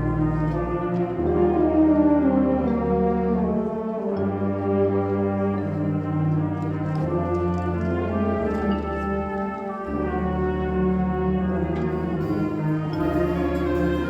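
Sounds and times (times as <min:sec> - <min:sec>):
symphonic band playing chords: 0:00.0 - 0:14.0.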